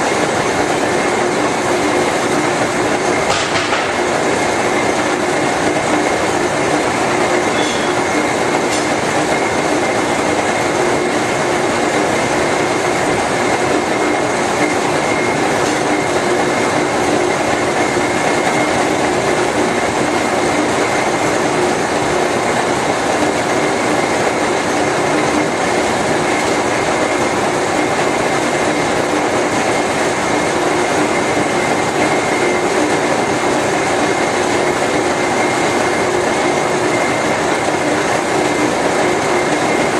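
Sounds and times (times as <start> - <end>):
high mechanical whine: 0.0 - 39.9.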